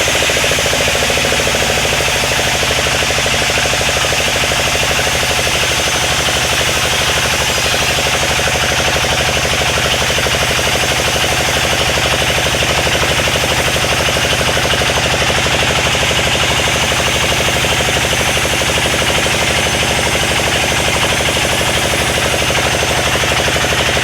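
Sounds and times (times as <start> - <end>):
sawmill machinery pulsing: 0.0 - 24.0.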